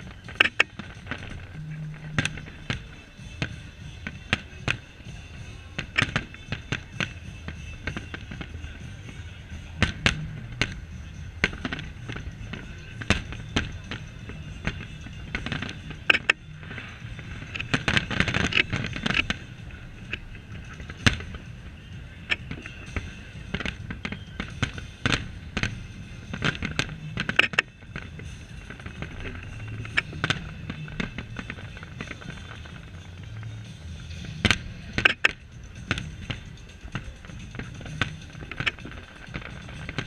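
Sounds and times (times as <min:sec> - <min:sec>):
fireworks crackling: 0:00.0 - 0:40.0.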